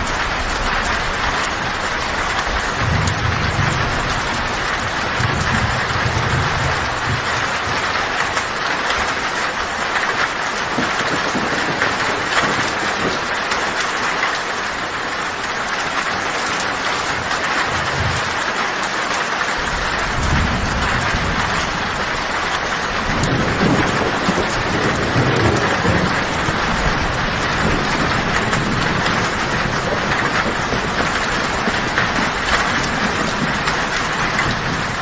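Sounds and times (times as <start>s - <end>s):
thunder rumbling: 0.0s - 18.6s, 19.6s - 35.0s
heavy rain on a tin roof: 0.0s - 35.0s.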